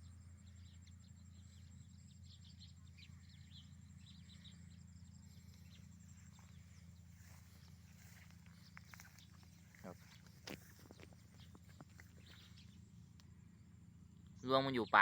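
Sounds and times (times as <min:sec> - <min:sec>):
low hum: 0:00.0 - 0:14.5.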